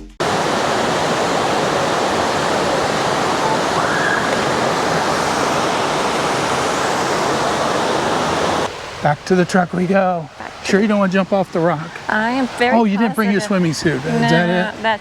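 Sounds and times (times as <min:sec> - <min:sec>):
water rushing over rocks: 0:00.1 - 0:15.0.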